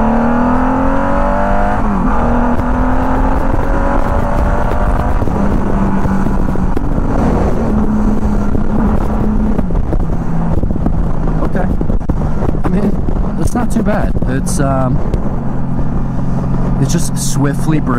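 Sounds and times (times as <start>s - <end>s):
motorcycle engine accelerating: 0.0s - 17.9s
rushing wind noise: 0.0s - 17.9s.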